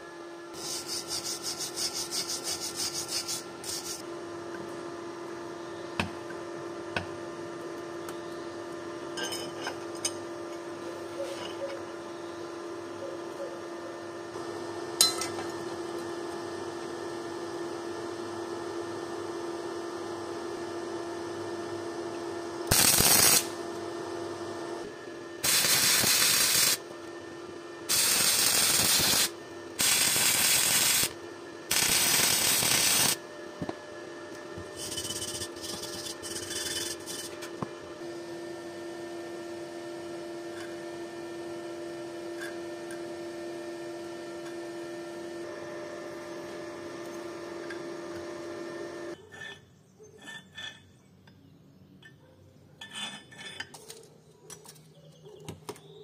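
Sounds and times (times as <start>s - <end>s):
steady hum: 0.0s - 17.4s, 20.4s - 49.3s.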